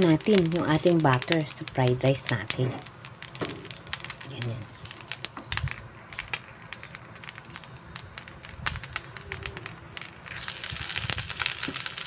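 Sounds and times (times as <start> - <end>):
butter crackling and popping: 0.0 - 12.0
faint sizzle: 0.0 - 12.0.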